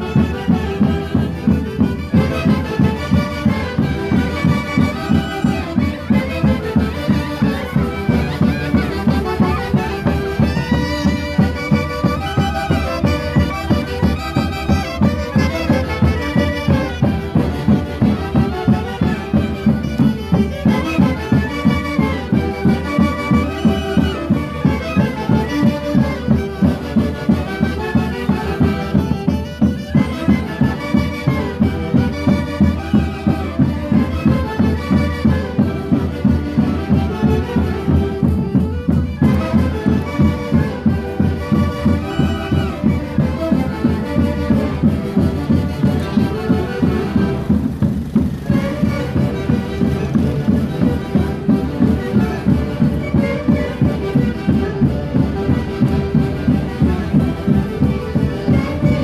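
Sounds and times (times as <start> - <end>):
steady drum beat: 0.0 - 59.0
wind instrument melody: 0.0 - 59.0.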